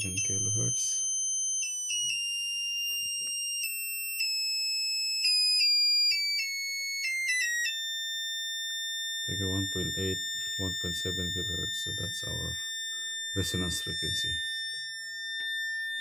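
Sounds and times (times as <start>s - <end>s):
coil whining high tone: 0.0s - 16.0s.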